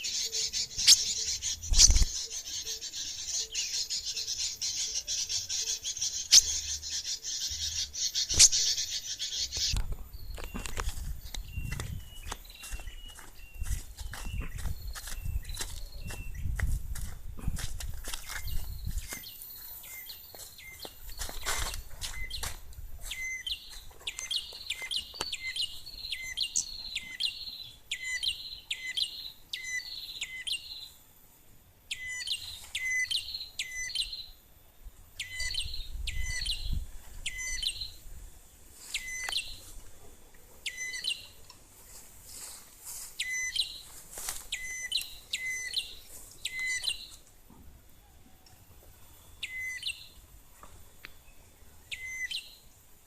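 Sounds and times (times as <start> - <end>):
small songbird calling: 0.0 - 16.6, 18.2 - 31.0, 31.9 - 34.4, 35.1 - 38.1, 38.8 - 39.8, 40.6 - 41.5, 43.1 - 47.2, 47.9 - 52.8.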